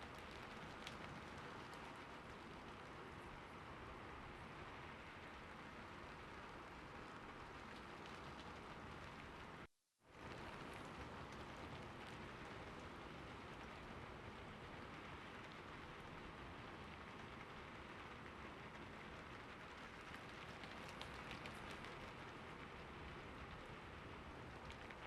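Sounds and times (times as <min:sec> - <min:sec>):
faint rain-like hiss: 0:00.0 - 0:25.0.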